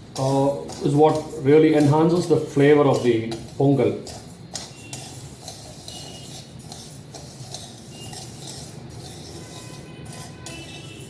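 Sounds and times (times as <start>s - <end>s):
grains scraping in a pan: 0.0s - 11.0s
utensil clinking against pan: 0.1s - 11.0s.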